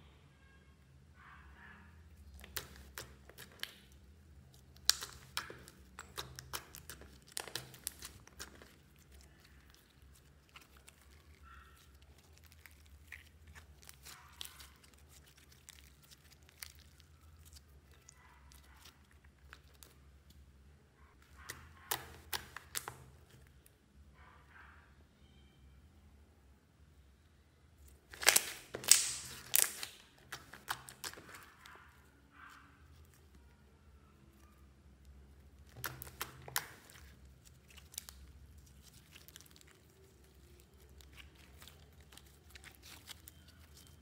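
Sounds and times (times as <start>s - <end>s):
hands kneading sticky slime: 2.1s - 20.6s, 21.2s - 23.7s, 27.8s - 44.0s.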